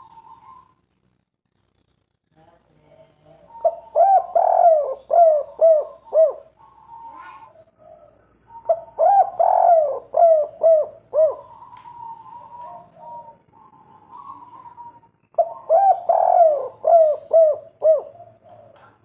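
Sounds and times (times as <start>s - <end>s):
dove cooing: 0.0s - 0.8s, 3.4s - 19.0s.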